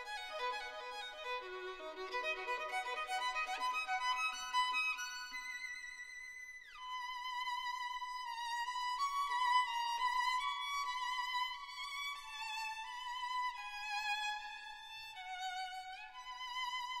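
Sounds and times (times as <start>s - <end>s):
solo violin melody: 0.0s - 17.0s.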